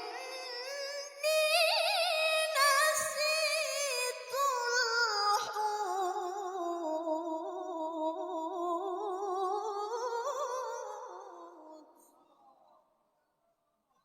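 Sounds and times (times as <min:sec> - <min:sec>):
woman reciting melodically: 0:00.0 - 0:12.2.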